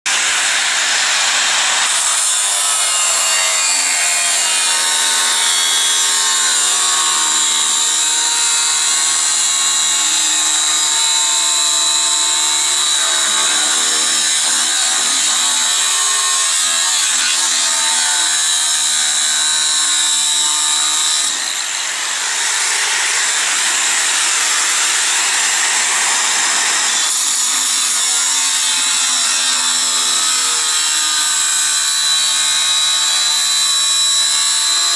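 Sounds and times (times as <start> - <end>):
angle grinder cutting steel: 0.1 - 34.9.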